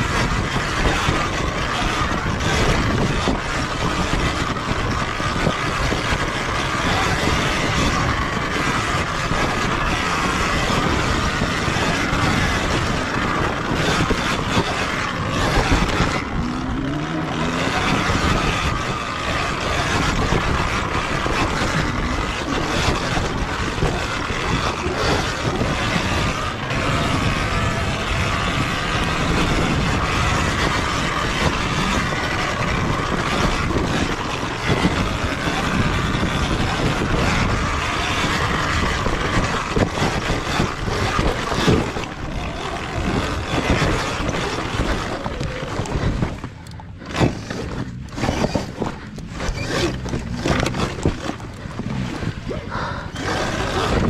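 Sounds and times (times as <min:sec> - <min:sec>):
dirt bike riding noise: 0:00.0 - 0:54.0
knocks and scrapes on rocks: 0:00.0 - 0:54.0.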